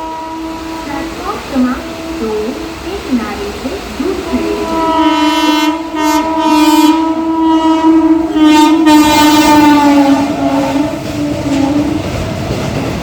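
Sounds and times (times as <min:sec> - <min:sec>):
locomotive air horn blast: 0:00.0 - 0:12.2.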